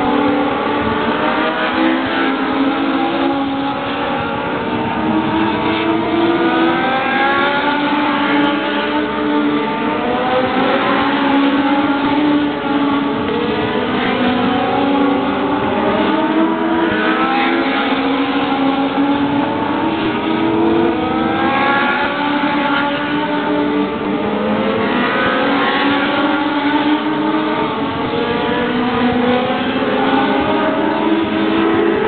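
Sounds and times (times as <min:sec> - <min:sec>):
race car engines: 0:00.0 - 0:32.0.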